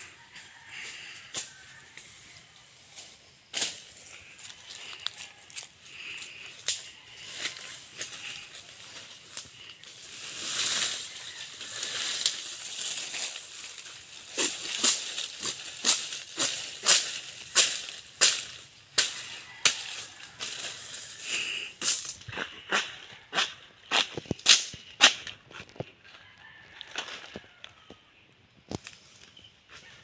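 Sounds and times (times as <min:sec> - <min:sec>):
leaves and brush rustling: 0:00.0 - 0:27.8.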